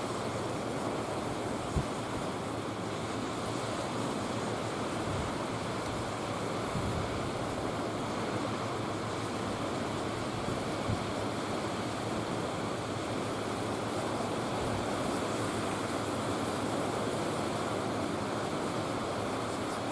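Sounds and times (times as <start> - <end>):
sea water rushing: 0.0 - 19.9
wind: 0.0 - 19.9.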